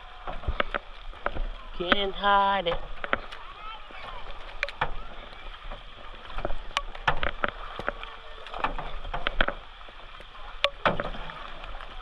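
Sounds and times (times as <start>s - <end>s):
paddle splashing in water: 0.0s - 12.0s.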